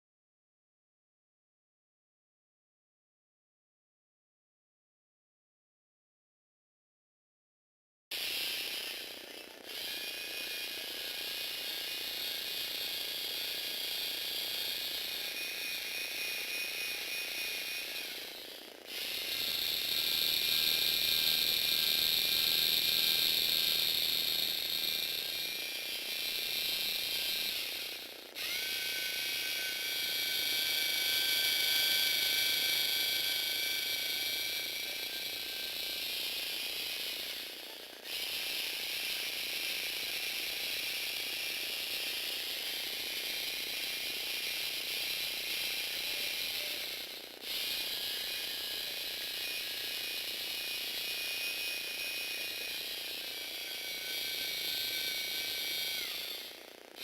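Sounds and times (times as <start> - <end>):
electric motor gear whine: 8.1 - 57.0.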